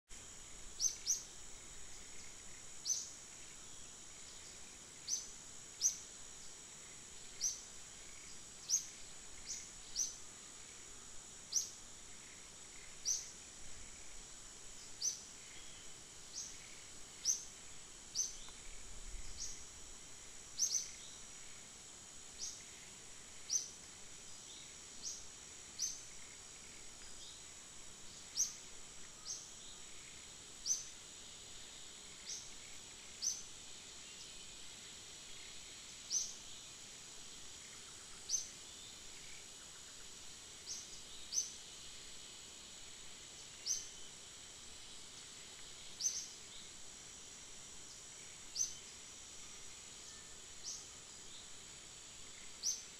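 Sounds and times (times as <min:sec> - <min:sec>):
high-pitched insect drone: 0:00.1 - 0:52.9.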